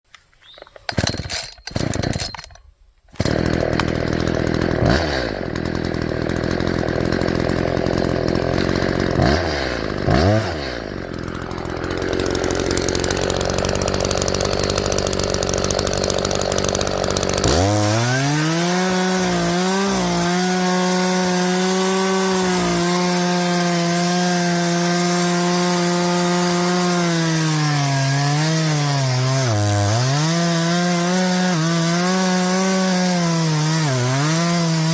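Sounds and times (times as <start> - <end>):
chainsaw cutting wood: 0.4 - 34.9
chainsaw idling and revving: 0.9 - 2.5, 3.1 - 34.9.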